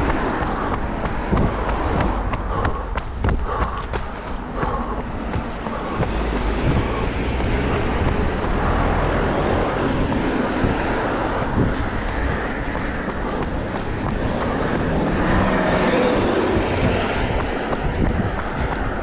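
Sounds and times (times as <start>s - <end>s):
road traffic: 0.0s - 19.0s
wind rumble on microphone: 0.0s - 19.0s.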